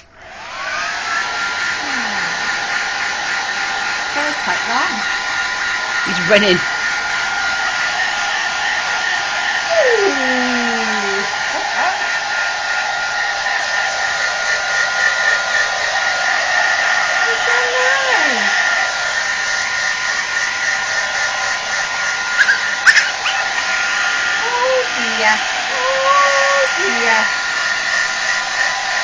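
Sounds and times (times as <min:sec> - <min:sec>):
hair dryer blowing with motor whine: 0:00.0 - 0:29.0.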